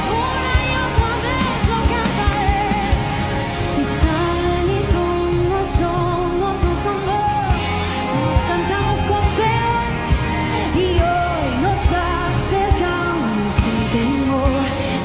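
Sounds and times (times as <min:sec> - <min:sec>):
band accompaniment: 0:00.0 - 0:15.0
person singing: 0:00.0 - 0:15.0.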